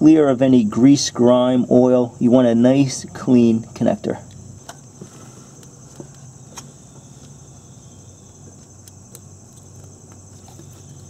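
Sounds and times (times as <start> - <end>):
steady high-pitched hum: 0.0 - 11.0.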